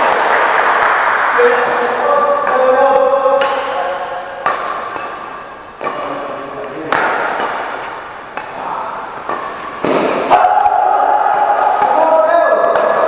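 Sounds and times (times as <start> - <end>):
racket hitting shuttlecock: 0.0 - 13.0.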